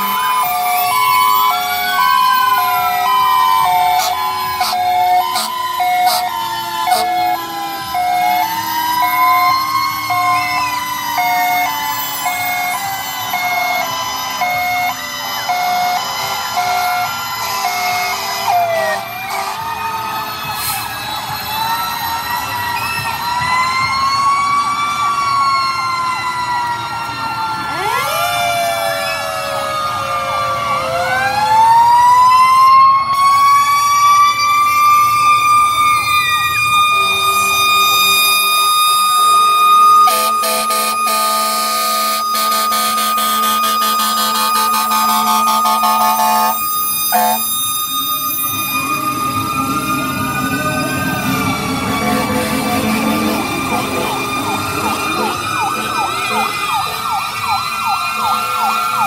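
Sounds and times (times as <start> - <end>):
fire truck sirens wailing: 0.0 - 59.0
low siren winding down: 0.0 - 59.0
on-off siren tone: 0.0 - 59.0.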